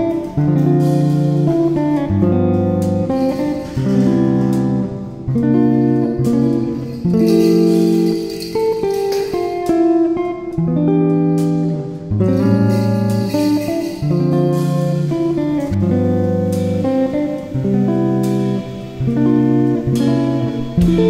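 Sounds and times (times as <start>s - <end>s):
plucked guitar music: 0.0s - 21.0s.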